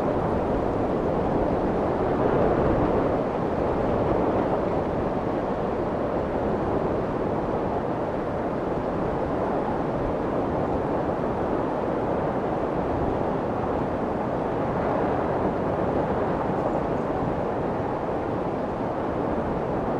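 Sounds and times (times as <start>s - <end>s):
low rumbling white noise: 0.0s - 19.9s.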